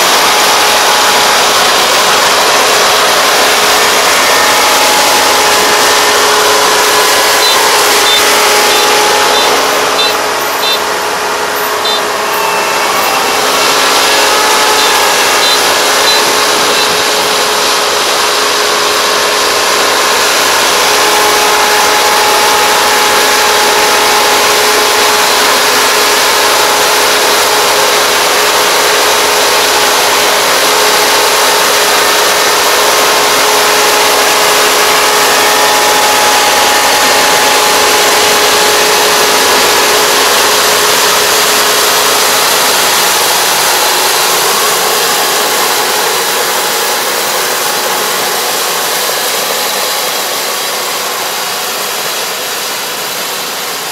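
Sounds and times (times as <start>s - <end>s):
combine harvester engine drone: 0.0s - 53.9s
constant machine whine: 0.0s - 53.9s.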